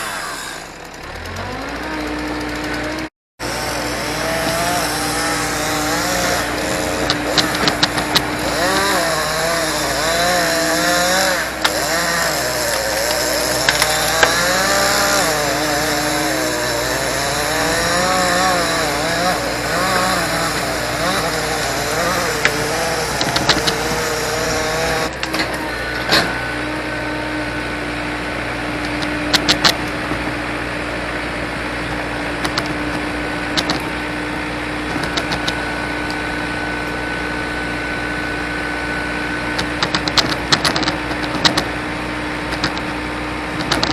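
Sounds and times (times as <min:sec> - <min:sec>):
engine under varying load: 0:00.0 - 0:43.9
steady engine hum: 0:00.0 - 0:43.9.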